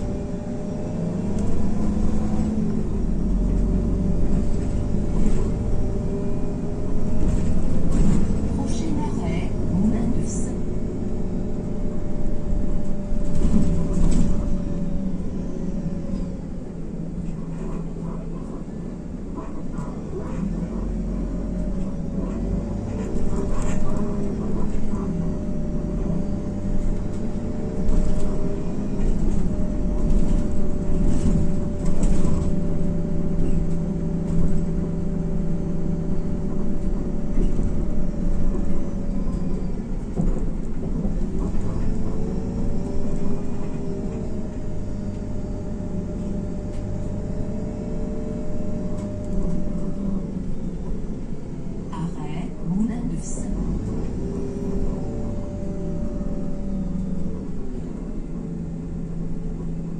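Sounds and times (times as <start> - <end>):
bus engine rumble with whine: 0.0 - 59.9.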